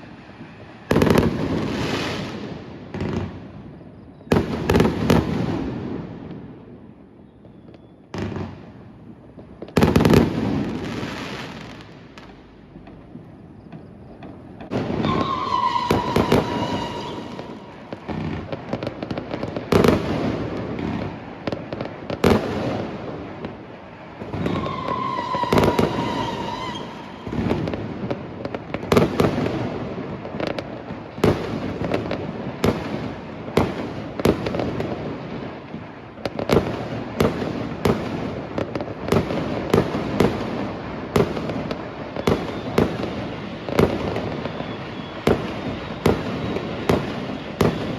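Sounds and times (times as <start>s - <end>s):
firework whistling: 0.0s - 47.9s
fireworks bangs: 0.0s - 47.9s
fireworks crackling: 0.0s - 47.9s.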